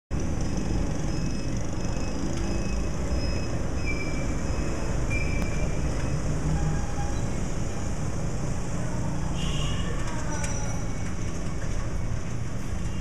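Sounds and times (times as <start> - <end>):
motorcycle engines rumbling: 0.1 - 13.0.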